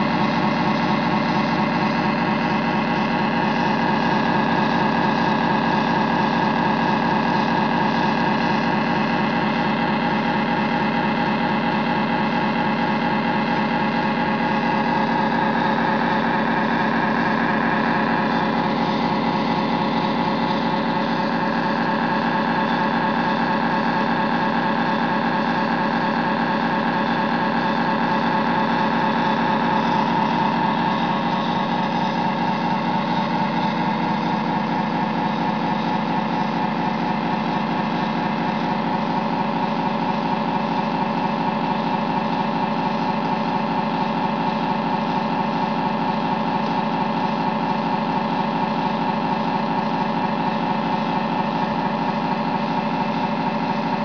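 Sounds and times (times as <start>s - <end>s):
simulated diesel engine: 0.0s - 54.0s.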